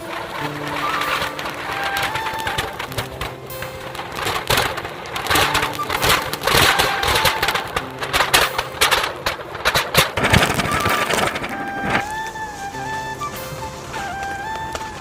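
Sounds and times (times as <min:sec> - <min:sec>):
background music: 0:00.0 - 0:15.0
firework hissing and crackling: 0:00.0 - 0:15.0.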